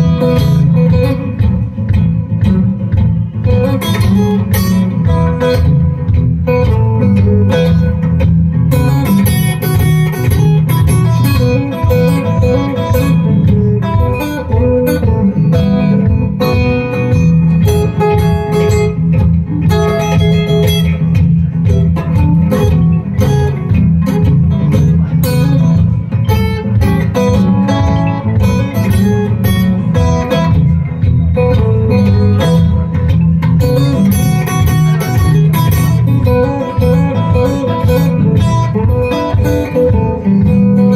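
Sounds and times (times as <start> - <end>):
acoustic guitar blues: 0.0 - 40.9.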